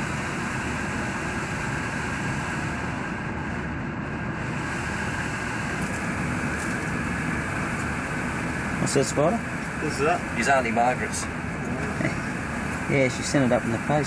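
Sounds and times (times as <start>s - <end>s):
faint steady whine: 0.0s - 14.0s
machinery and ventilation drone: 0.0s - 14.0s.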